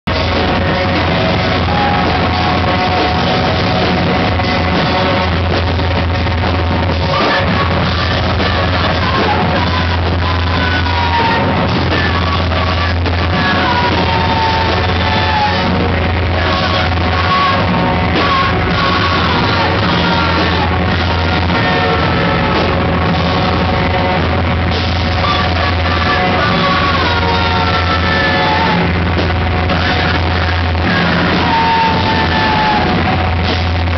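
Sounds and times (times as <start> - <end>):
live noise rock band: 0.0 - 33.9
yelled vocals: 0.1 - 33.9.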